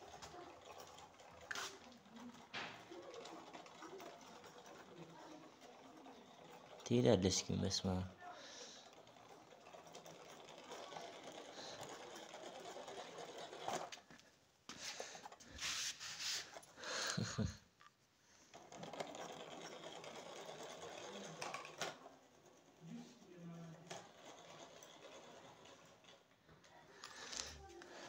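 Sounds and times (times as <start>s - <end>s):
toy car motor whirring: 0.0s - 14.2s, 14.8s - 17.6s, 18.4s - 28.0s.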